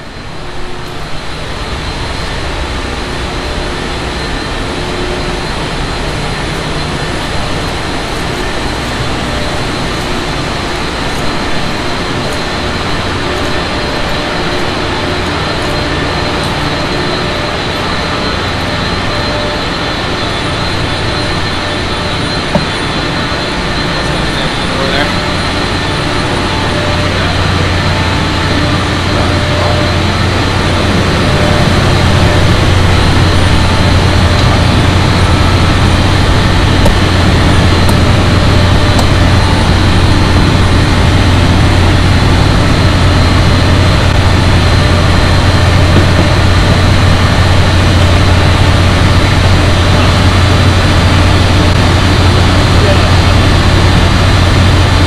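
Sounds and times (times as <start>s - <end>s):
low hum: 0.0s - 55.0s
machinery drone: 0.0s - 55.0s
ventilation fans: 0.0s - 55.0s.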